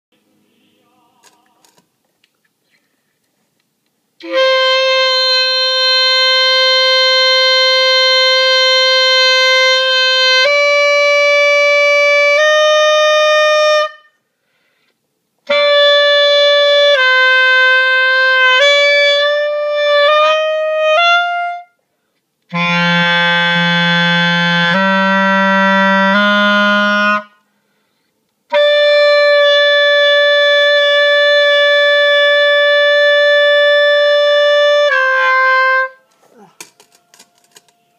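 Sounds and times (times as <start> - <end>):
clarinet playing held notes: 4.2 - 14.2, 15.4 - 21.8, 22.5 - 27.4, 28.5 - 37.9.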